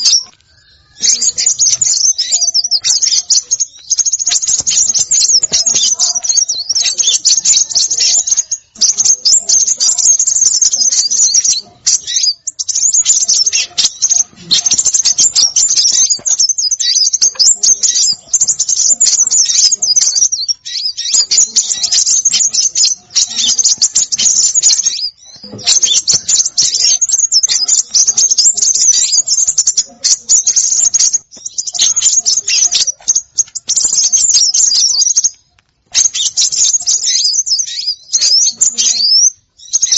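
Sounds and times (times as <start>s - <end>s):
songbirds chittering and twittering: 0.0s - 39.9s.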